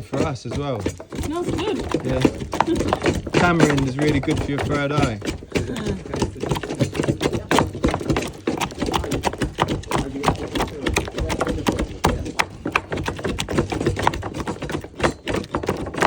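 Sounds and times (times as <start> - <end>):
rapid clicking and knocking: 0.0 - 16.0.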